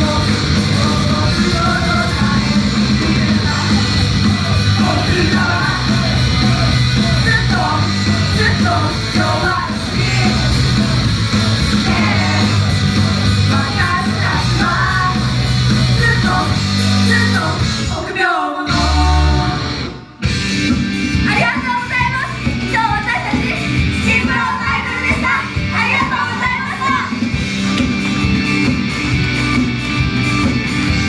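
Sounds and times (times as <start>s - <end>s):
group singing and shouts: 0.0s - 20.2s, 21.3s - 27.4s
live rock song: 0.0s - 31.0s.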